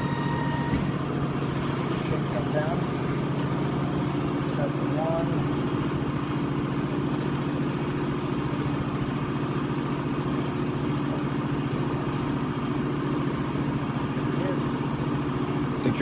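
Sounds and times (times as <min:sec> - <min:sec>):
hydraulic motor and pump hum: 0:00.0 - 0:16.0.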